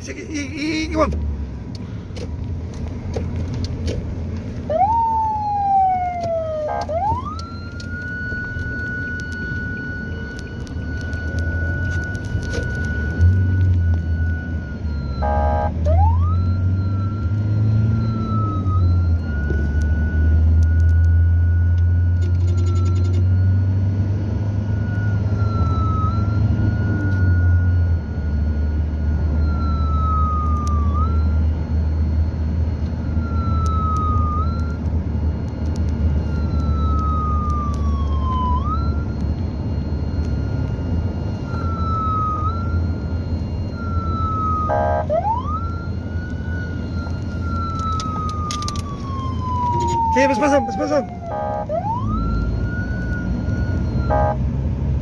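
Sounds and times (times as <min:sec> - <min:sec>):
car engine and road rumble: 0:00.0 - 0:55.0
police siren wailing: 0:04.4 - 0:55.0
siren whoop: 0:04.6 - 0:54.5.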